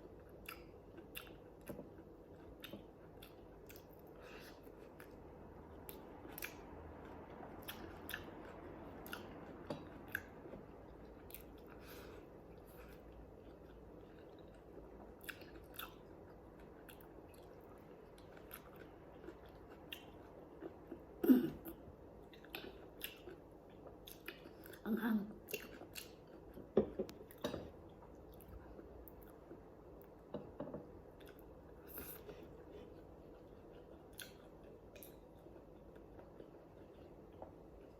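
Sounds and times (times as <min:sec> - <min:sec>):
person chewing food: 0:00.0 - 0:37.9.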